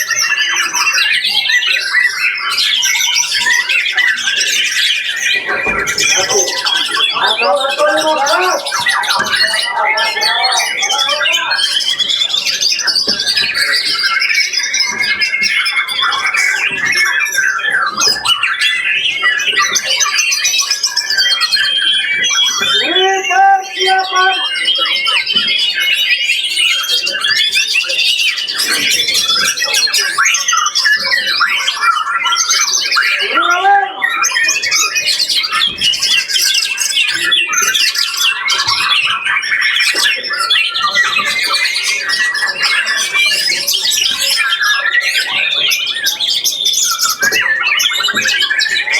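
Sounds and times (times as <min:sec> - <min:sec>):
songbirds singing in chorus: 0:00.0 - 0:48.9.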